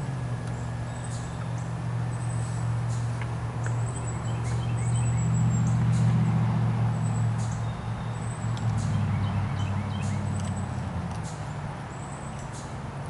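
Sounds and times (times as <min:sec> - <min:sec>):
birds chirping: 0:00.0 - 0:12.8
low mechanical hum: 0:00.0 - 0:13.0.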